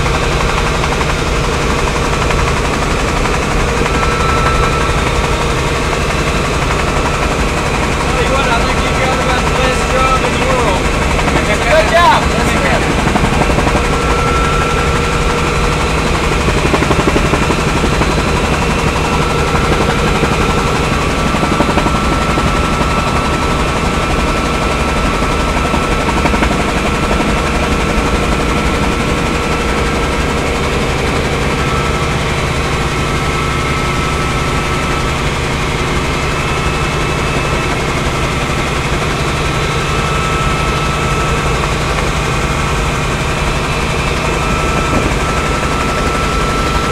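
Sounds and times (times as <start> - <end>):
helicopter engine and rotor noise: 0.0 - 46.9
high whine: 0.0 - 46.9.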